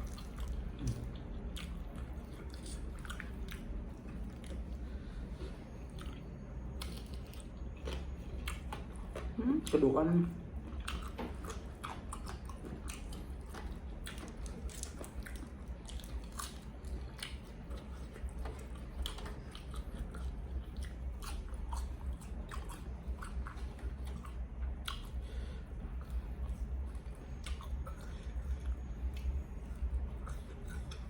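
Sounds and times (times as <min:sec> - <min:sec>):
crunchy chewing and biting: 0:00.0 - 0:31.0
steady low hum: 0:00.0 - 0:31.0.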